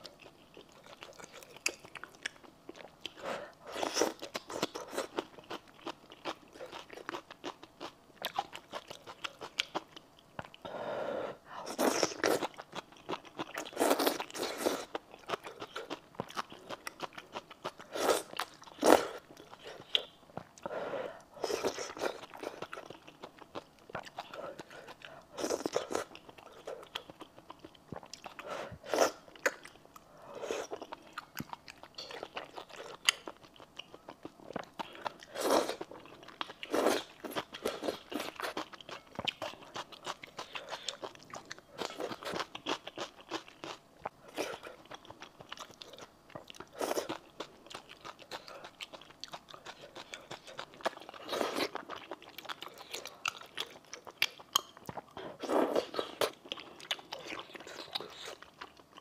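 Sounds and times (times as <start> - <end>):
person chewing noodles: 0.0 - 10.7, 11.5 - 59.0.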